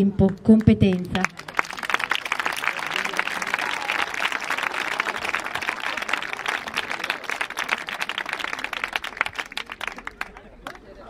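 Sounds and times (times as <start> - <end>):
audience applauding: 0.9 - 10.9.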